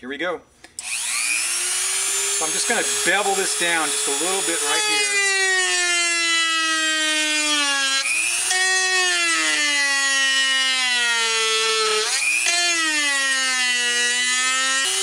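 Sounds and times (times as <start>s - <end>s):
rotary tool whining: 0.8s - 15.0s.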